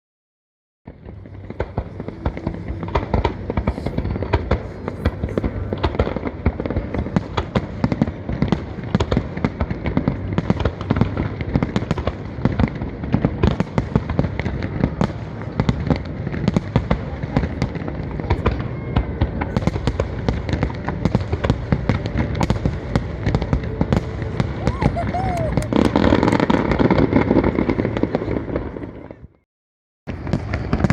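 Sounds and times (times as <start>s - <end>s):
fireworks bangs and crackling: 0.9s - 29.4s, 30.1s - 30.9s.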